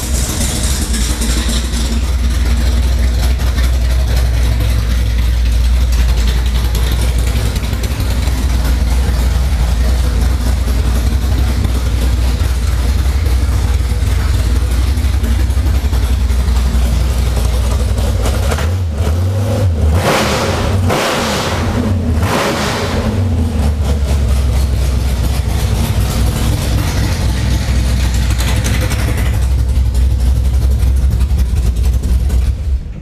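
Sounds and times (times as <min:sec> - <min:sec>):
car engine revving and idling: 0:00.0 - 0:33.0.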